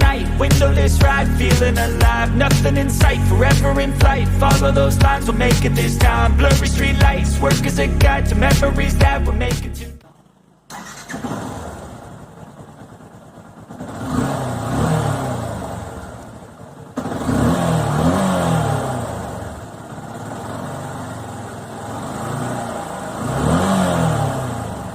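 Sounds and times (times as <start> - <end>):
engine throttle revs: 0.0 - 12.9, 13.6 - 24.9
motorcycle engine idling: 0.0 - 17.9, 18.8 - 23.3.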